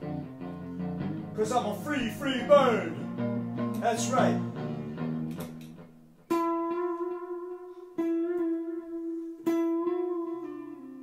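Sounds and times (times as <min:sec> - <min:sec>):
clean electric guitar notes: 0:00.0 - 0:11.0.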